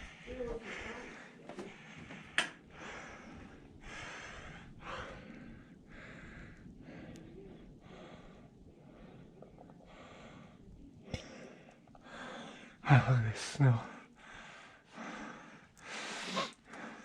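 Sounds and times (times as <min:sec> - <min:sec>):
man breathing hard: 0:00.0 - 0:13.2, 0:13.8 - 0:17.0.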